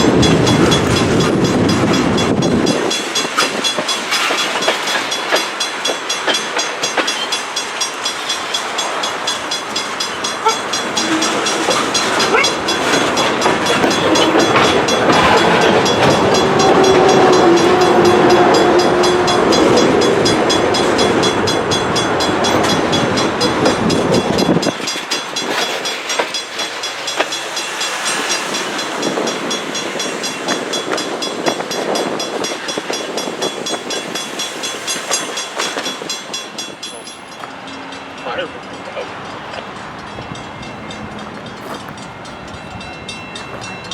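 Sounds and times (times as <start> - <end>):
freight train rolling past: 0.0 - 43.9
wheels clicking over rail joints: 0.0 - 43.9.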